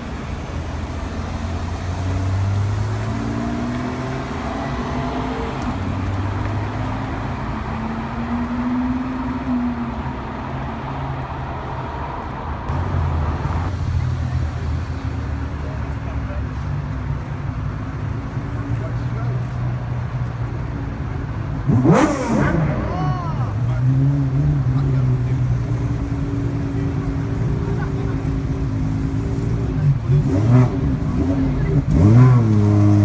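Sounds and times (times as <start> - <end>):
car engines revving: 0.0 - 33.0
traffic hum: 0.0 - 33.0.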